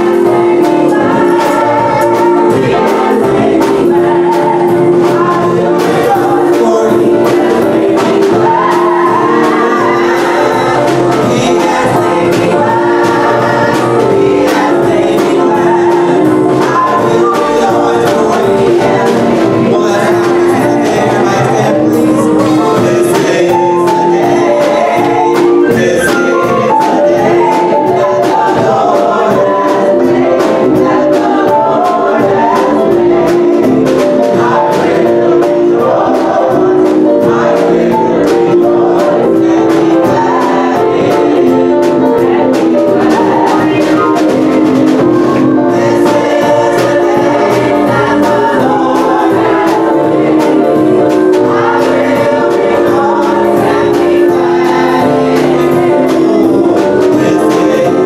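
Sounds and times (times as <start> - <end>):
steady beat: 0.0 - 58.0
women singing worship song: 0.0 - 58.0.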